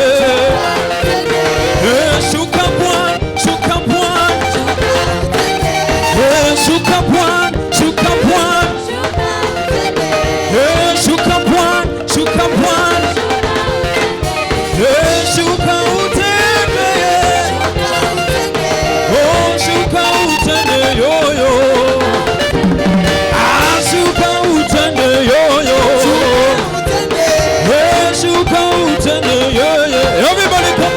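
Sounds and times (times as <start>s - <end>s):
people singing gospel: 0.0s - 30.9s
steady drum beat: 0.0s - 30.9s.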